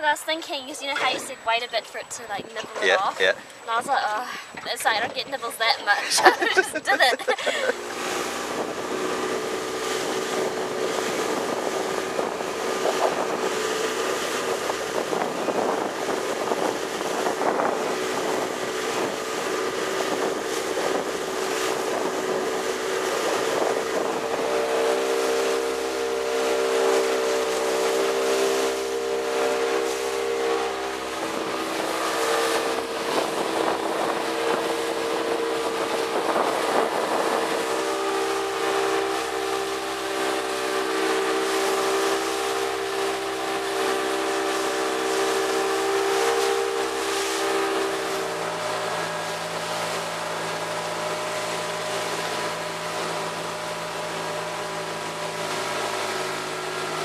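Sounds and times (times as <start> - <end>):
outboard motor droning: 0.0 - 57.0
water rushing: 0.0 - 57.0
wind: 0.0 - 57.0.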